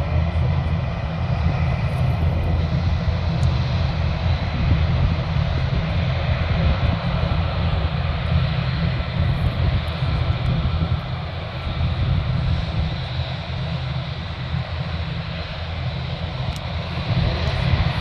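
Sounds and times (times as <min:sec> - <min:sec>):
aircraft engines roaring: 0:00.0 - 0:18.0.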